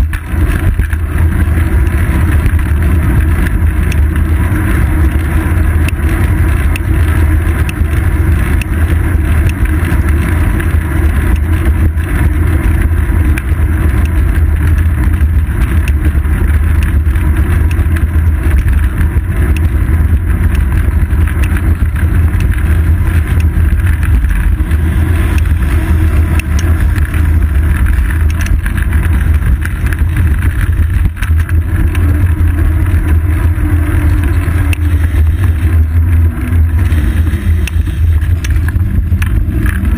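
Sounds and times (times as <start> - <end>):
road vibration and wind rumble: 0.0 - 39.9
street traffic: 0.0 - 39.9.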